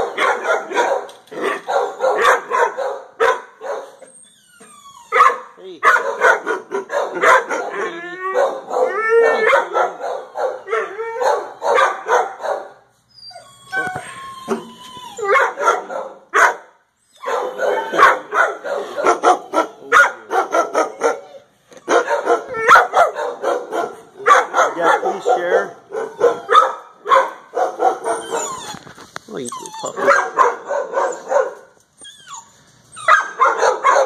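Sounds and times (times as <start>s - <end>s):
dogs barking: 0.0s - 4.1s, 5.1s - 12.9s, 14.5s - 28.6s, 29.6s - 31.8s, 33.0s - 34.0s
dog cries gliding in pitch: 3.7s - 5.4s, 6.3s - 34.0s.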